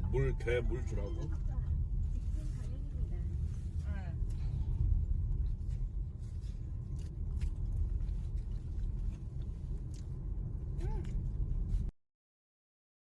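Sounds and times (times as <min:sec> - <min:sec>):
car cabin low rumble: 0:00.0 - 0:11.9.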